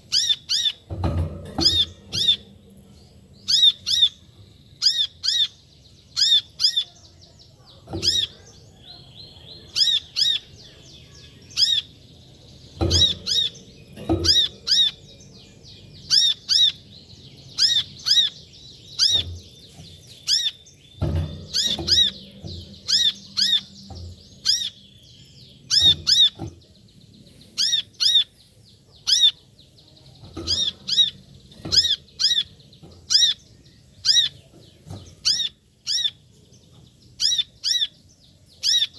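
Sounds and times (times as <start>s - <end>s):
bird high sharp chirps: 0.0s - 0.9s, 3.4s - 7.1s, 7.9s - 12.1s, 12.7s - 36.3s, 37.1s - 38.9s.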